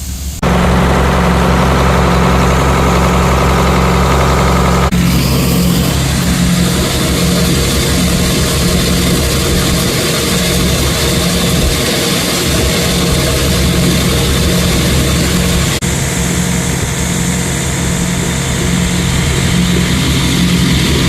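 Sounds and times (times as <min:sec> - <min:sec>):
heavy machinery engine humming: 0:00.0 - 0:21.0.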